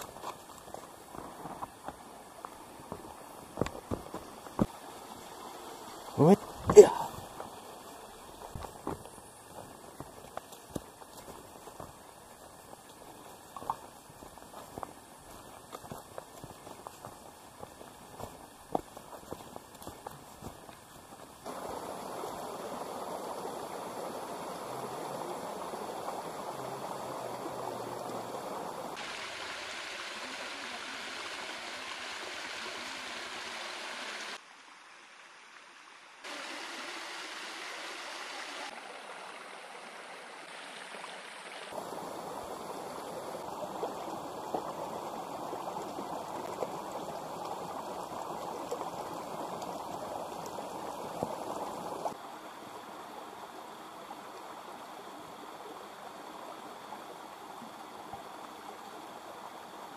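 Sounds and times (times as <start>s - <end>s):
river and waterfall rushing: 0.0s - 55.5s.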